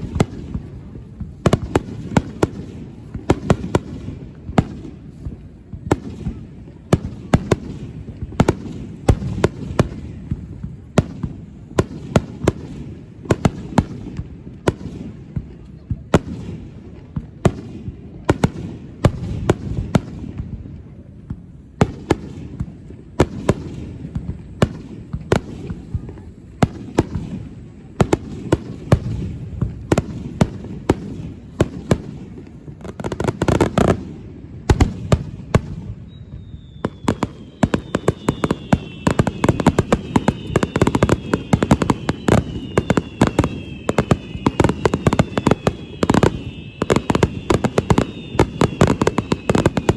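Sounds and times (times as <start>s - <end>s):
firework bangs: 0.0s - 49.9s
firework crackle: 0.0s - 49.9s
whistling fireworks: 0.0s - 49.9s.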